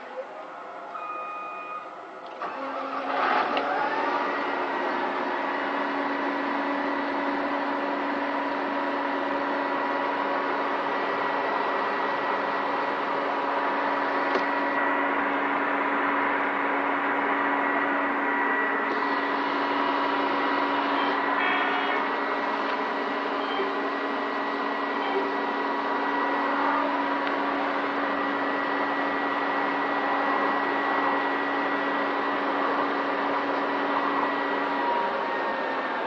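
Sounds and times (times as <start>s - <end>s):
diesel engine running: 0.0s - 36.0s
steady whine: 0.0s - 36.0s.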